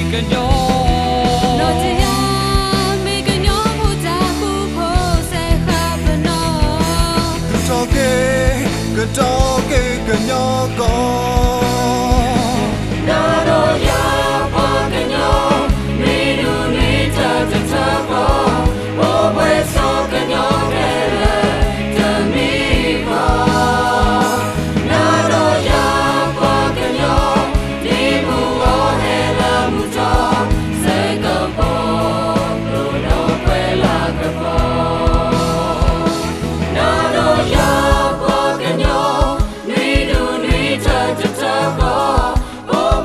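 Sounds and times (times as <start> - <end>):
band of keyboards and guitars: 0.0 - 43.0
group of voices singing: 0.0 - 43.0.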